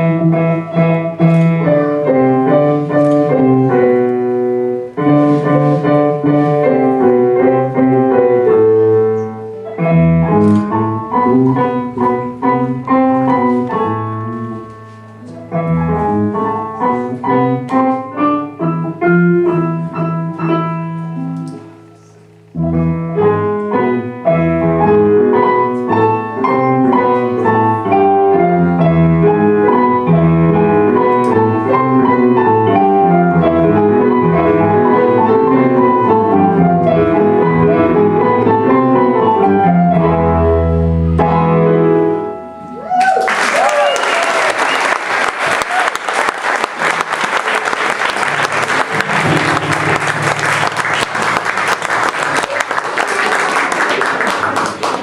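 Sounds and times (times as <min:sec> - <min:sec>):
school ensemble playing: 0:00.0 - 0:42.6, 0:46.5 - 0:53.2.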